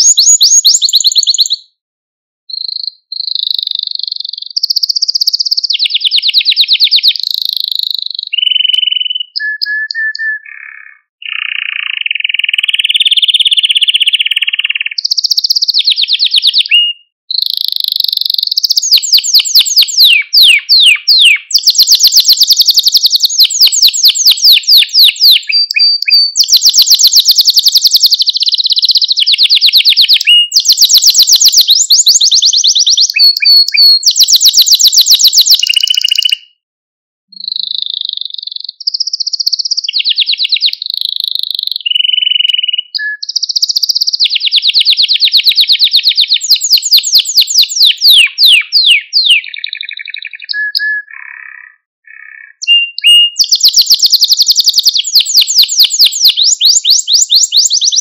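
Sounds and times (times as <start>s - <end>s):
canary singing trills: 0.0s - 1.8s, 2.5s - 36.6s, 37.3s - 58.0s.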